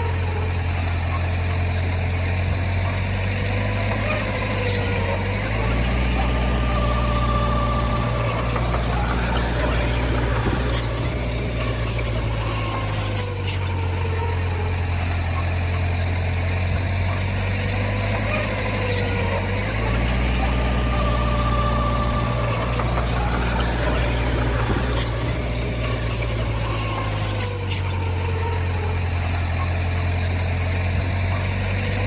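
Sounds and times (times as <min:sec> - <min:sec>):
diesel earthmoving machinery running: 0:00.0 - 0:32.0
metal clanks: 0:00.0 - 0:32.0
wavering whine: 0:00.0 - 0:32.0.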